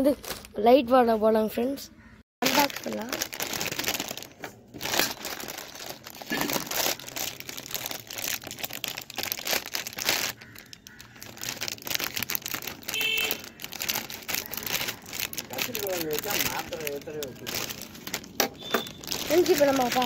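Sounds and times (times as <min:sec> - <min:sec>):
plastic packet crackling: 0:02.4 - 0:20.0.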